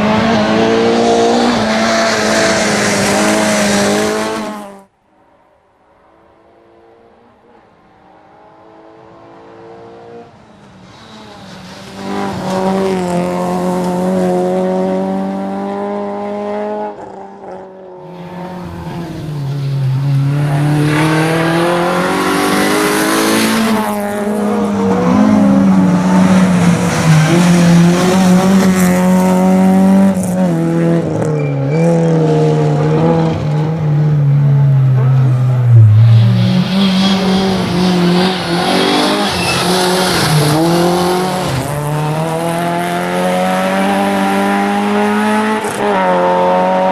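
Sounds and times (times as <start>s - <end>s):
rally car engine revving: 0.0s - 4.8s, 8.8s - 46.9s.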